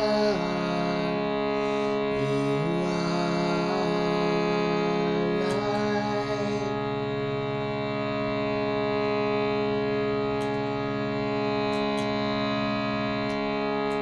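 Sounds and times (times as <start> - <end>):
sound bath drone: 0.0 - 14.0.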